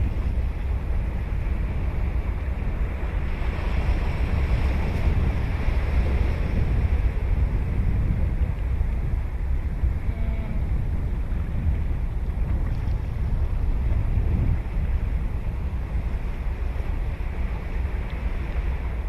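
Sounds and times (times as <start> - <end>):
ocean surf washing onto beach: 0.0 - 19.0
wind rumble on microphone: 0.0 - 19.0.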